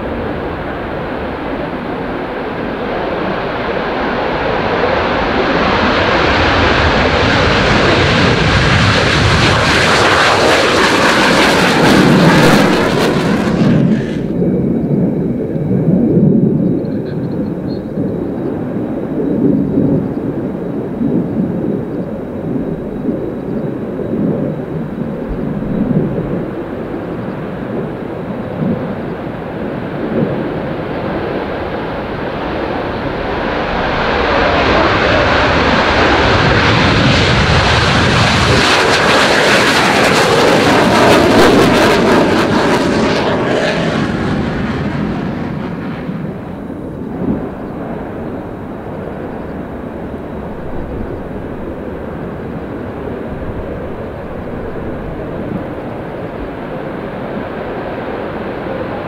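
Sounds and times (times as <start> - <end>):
jets rumbling on runway: 0.0 - 59.0
loud jet engine rush: 0.0 - 59.0.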